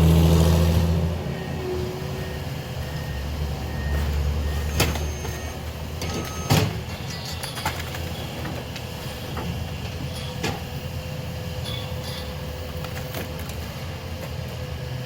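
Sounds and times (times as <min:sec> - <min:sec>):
heavy demolition machinery running: 0:00.0 - 0:15.0.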